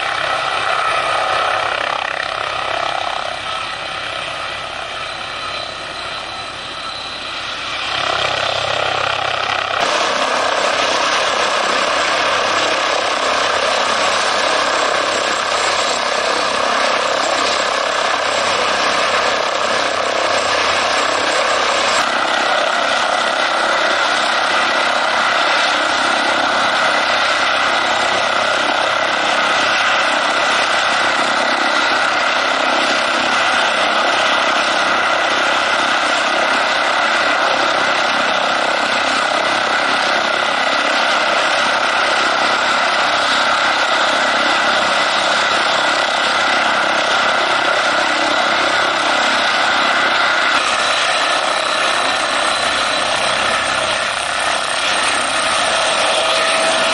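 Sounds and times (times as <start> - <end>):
helicopter turbine and rotor: 0.0 - 56.9
high turbine whine: 0.0 - 56.9.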